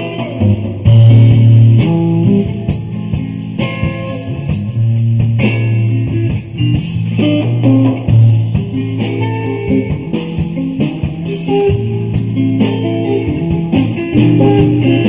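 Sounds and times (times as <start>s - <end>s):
guitar-led song with drums: 0.0s - 15.0s.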